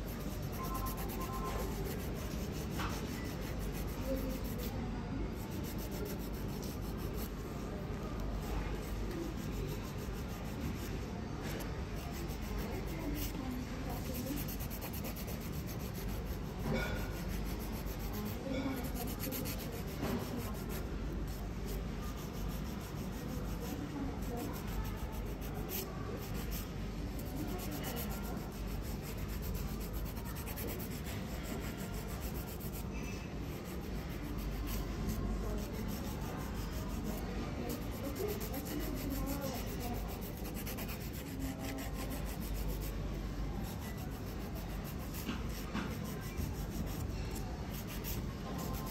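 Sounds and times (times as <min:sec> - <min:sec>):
fingernails being filed: 0:00.1 - 0:04.7, 0:05.4 - 0:07.4, 0:12.0 - 0:21.4, 0:22.1 - 0:32.9, 0:33.5 - 0:43.0, 0:43.6 - 0:48.9.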